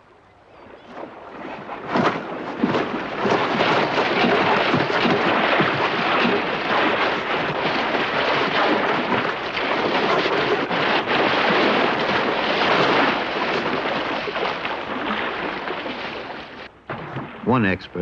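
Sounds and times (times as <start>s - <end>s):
heavy water splashing: 0.8s - 18.0s.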